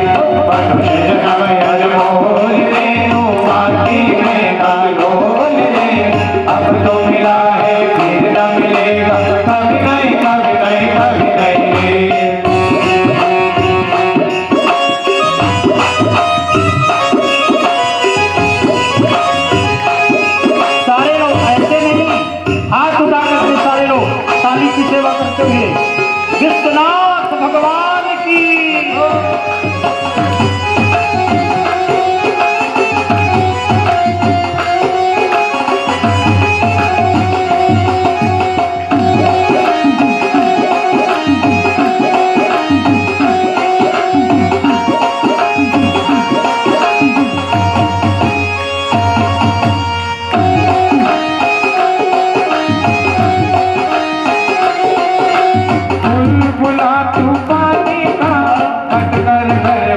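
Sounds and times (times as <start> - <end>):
melody instrument long notes: 0.0 - 59.9
tabla beat: 0.0 - 59.9.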